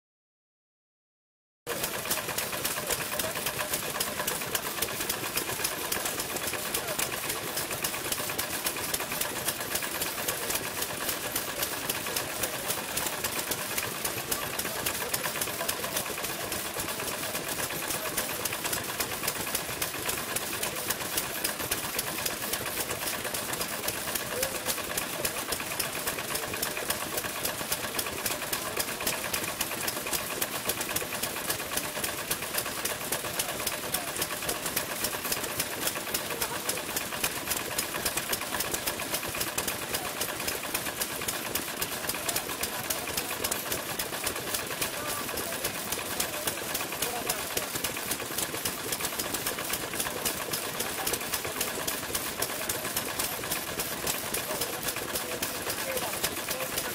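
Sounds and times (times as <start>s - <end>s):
stationary engines clattering: 1.7s - 56.9s.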